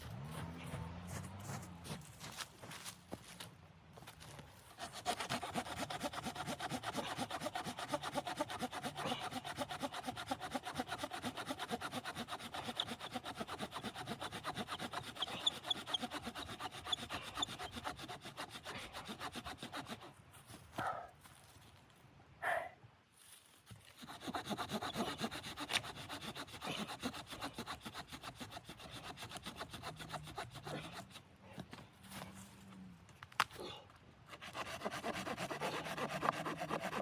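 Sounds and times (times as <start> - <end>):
hand saw cutting wood: 0.0 - 2.8, 4.7 - 20.2, 23.7 - 32.2, 34.3 - 37.0.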